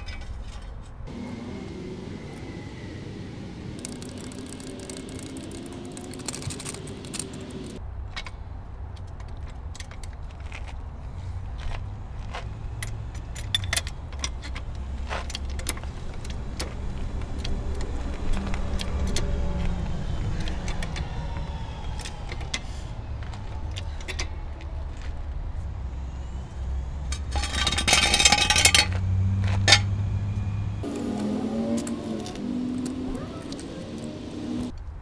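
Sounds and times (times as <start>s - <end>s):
low hum: 1.0s - 7.9s, 12.9s - 34.8s.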